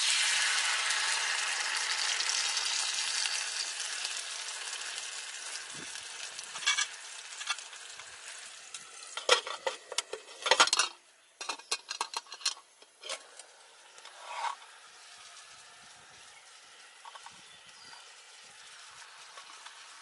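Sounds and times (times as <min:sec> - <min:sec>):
food sizzling in a pan: 0:00.0 - 0:10.2, 0:13.5 - 0:20.0.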